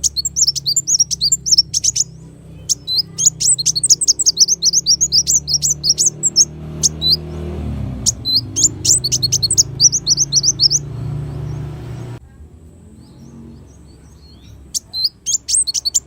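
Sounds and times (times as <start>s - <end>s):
bird singing high thin chirps: 0.0s - 12.2s, 13.0s - 16.0s.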